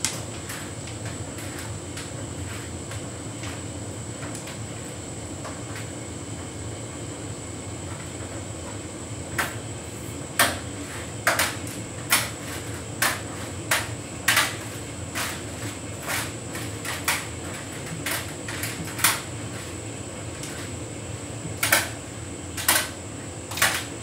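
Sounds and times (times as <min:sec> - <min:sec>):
tumble dryer humming: 0:00.0 - 0:24.0.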